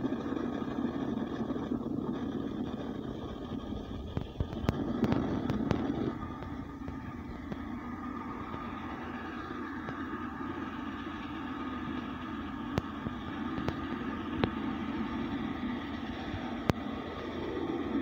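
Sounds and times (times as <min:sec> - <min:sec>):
steam locomotive rumbling: 0:00.0 - 0:18.0.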